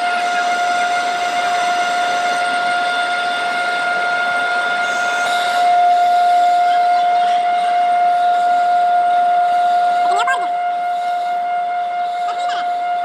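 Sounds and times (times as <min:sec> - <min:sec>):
machine high-pitched whine: 0:00.0 - 0:13.0.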